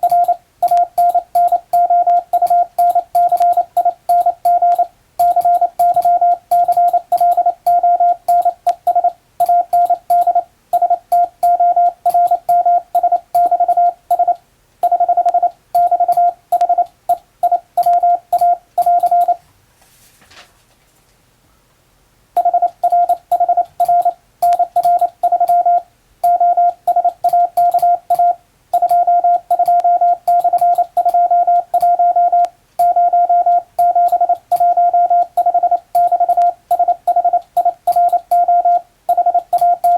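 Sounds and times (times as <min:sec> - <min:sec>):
morse code beeps: 0:00.0 - 0:19.4, 0:22.4 - 0:39.9.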